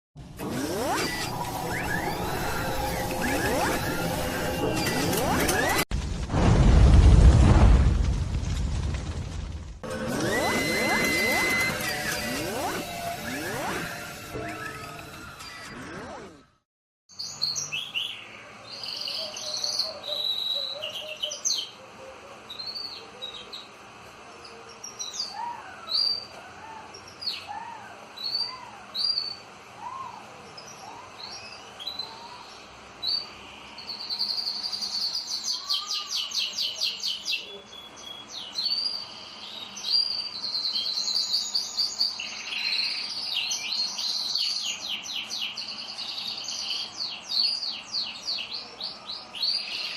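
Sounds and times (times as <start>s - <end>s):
canaries singing: 0.5s - 5.8s, 9.9s - 16.4s, 17.1s - 49.9s.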